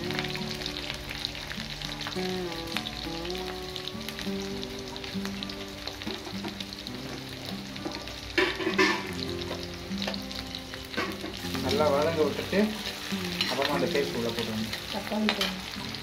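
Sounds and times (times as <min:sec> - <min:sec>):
background music: 0:00.0 - 0:16.0
shallots sizzling in hot oil: 0:00.0 - 0:16.0.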